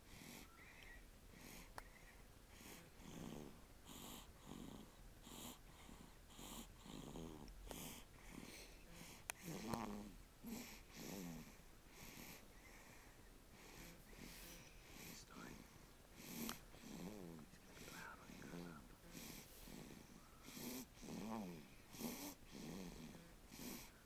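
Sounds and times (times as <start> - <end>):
faint snoring: 0.0 - 24.0.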